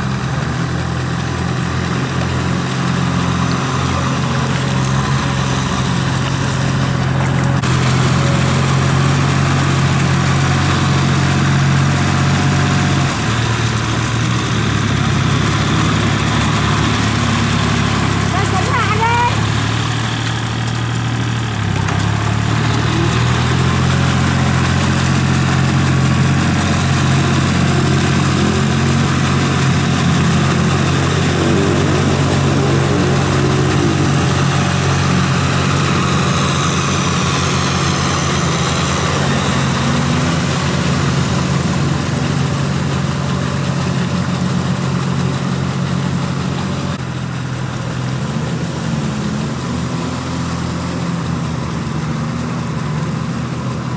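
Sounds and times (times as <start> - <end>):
mud and water churning: 0.0 - 53.9
tractor engine running: 0.0 - 53.9.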